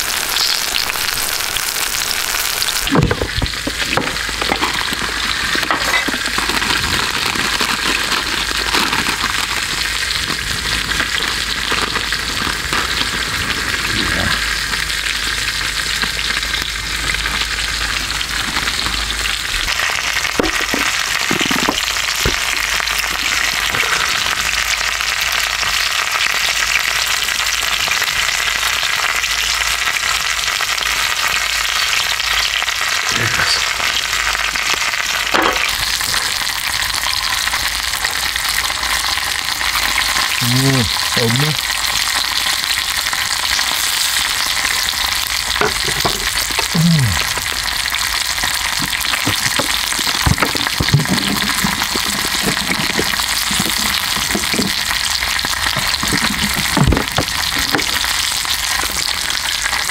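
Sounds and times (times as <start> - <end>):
steak sizzling on grill: 0.0 - 59.9.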